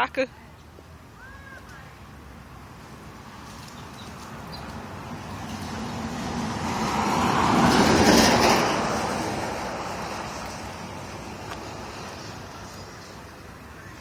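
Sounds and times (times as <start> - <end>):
vehicle passing by: 1.8 - 14.0.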